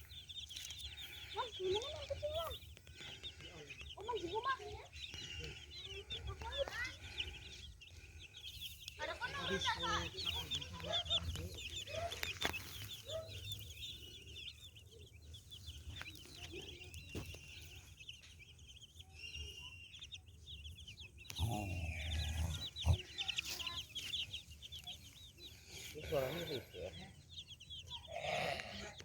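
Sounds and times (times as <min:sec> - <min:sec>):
chicks peeping: 0:00.0 - 0:29.0
hen clucking: 0:00.0 - 0:29.0.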